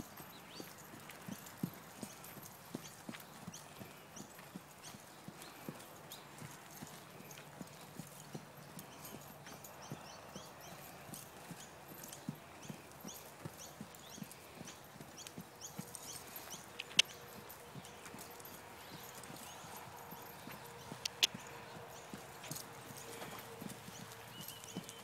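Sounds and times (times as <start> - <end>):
muffled hoofbeats on dirt: 0.0 - 25.0.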